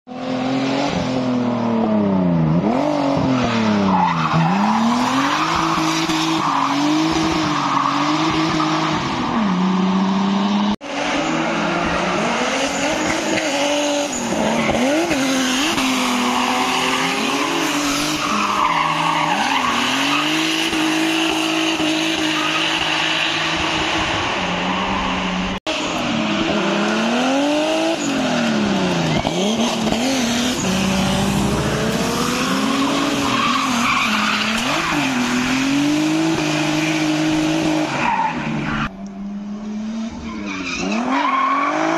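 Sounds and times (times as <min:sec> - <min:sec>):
car engine revving: 0:00.1 - 0:41.9.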